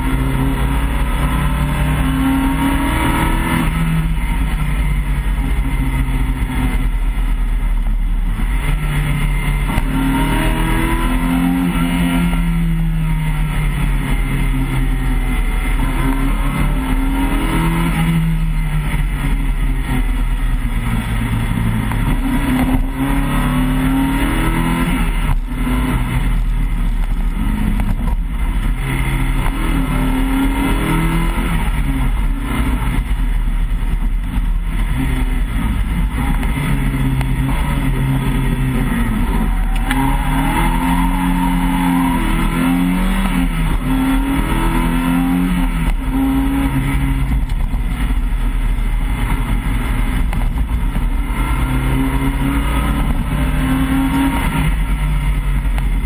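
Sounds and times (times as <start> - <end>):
car engine revving: 0.0 - 56.0
low road and drivetrain drone: 0.0 - 56.0.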